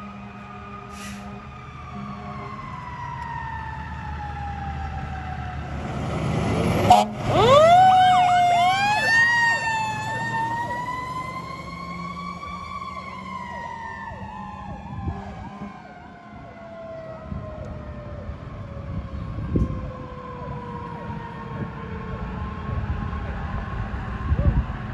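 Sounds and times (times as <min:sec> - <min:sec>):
fire truck siren wailing: 0:00.0 - 0:24.9
second siren sweeping: 0:00.0 - 0:24.9.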